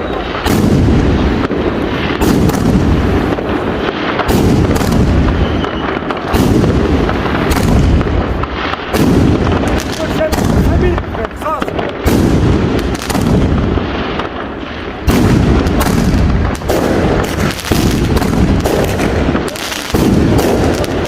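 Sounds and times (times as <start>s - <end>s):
firecrackers banging: 0.0s - 21.0s
fireworks booming: 0.0s - 21.0s.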